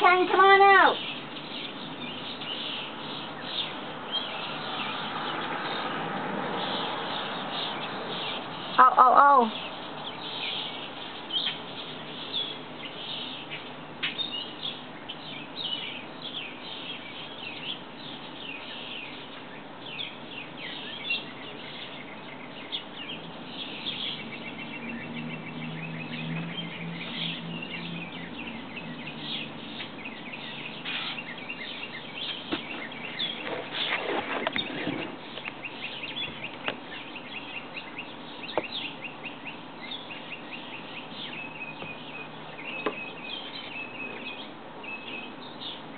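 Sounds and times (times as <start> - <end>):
rapid bird trill: 0.0 - 6.0, 6.6 - 45.9
songbirds chirping and calling: 0.0 - 45.9.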